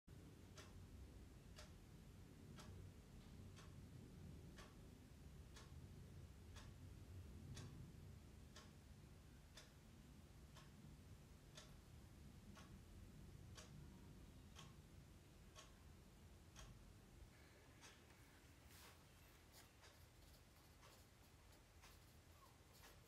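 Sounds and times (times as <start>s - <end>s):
low room hum: 0.1s - 23.0s
clock ticking: 0.2s - 23.0s.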